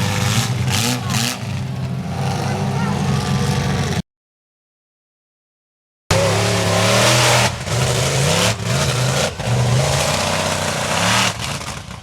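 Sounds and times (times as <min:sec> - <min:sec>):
monster truck engine revving: 0:00.0 - 0:04.0, 0:06.1 - 0:12.0.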